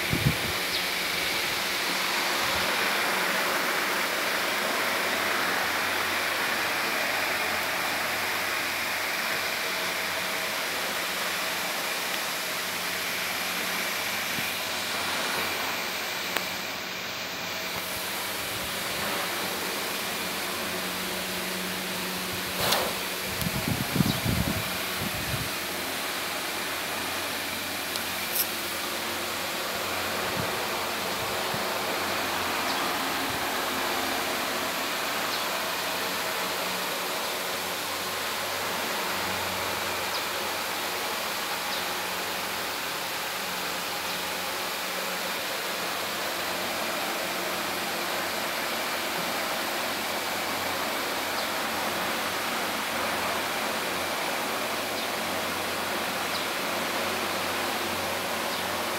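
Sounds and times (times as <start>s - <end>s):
electric fan rushing hiss: 0.0s - 58.9s.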